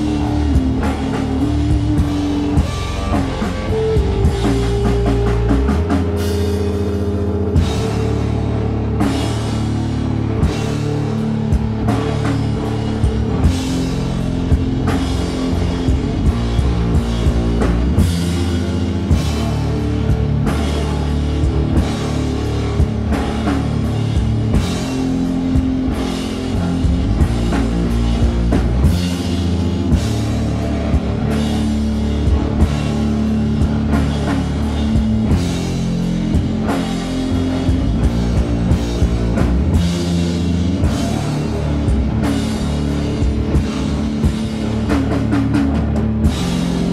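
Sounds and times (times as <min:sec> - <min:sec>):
bass guitar: 0:00.0 - 0:46.9
drum kit beats: 0:00.0 - 0:46.9
electric guitars: 0:00.0 - 0:46.9.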